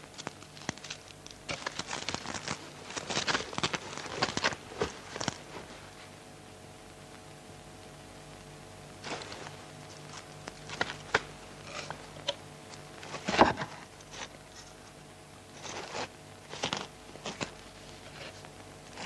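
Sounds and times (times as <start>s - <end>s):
crunching and scraping: 0.0s - 6.2s, 9.0s - 19.0s
faint steady hum: 0.0s - 19.0s.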